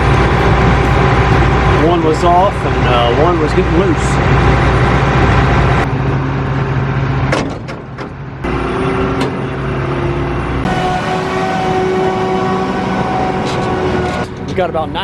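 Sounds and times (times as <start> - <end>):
heavy farm machine engine running: 0.0 - 15.0.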